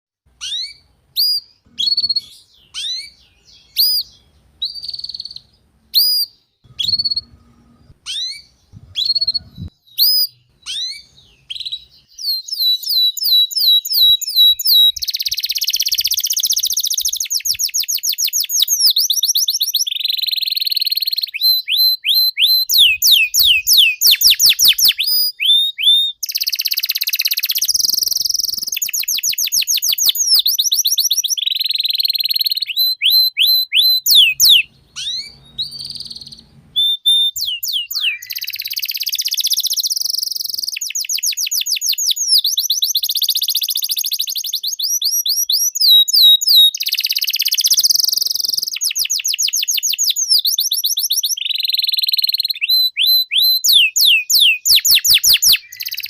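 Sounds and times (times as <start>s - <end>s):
canary singing: 0.3s - 56.0s.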